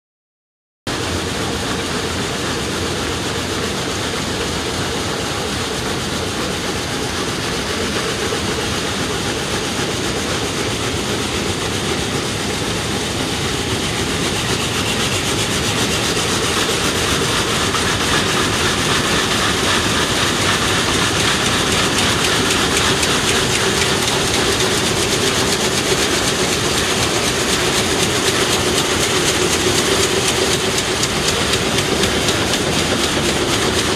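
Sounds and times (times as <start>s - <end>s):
weaving looms clattering: 5.4s - 33.9s.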